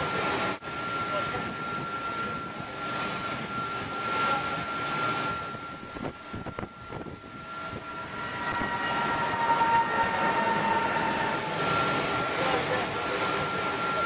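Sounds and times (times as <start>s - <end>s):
jet engine whine: 0.0s - 14.0s
lower whine: 0.0s - 14.0s.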